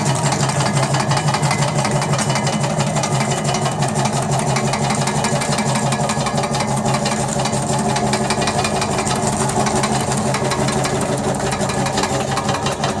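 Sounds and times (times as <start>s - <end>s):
floor scraper running: 0.0s - 13.0s.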